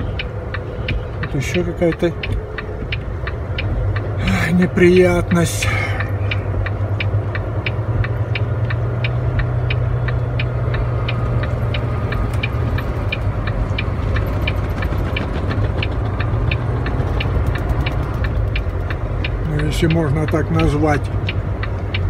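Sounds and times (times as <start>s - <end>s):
light regular ticking: 0.0s - 22.0s
truck engine drone in cab: 0.0s - 22.0s.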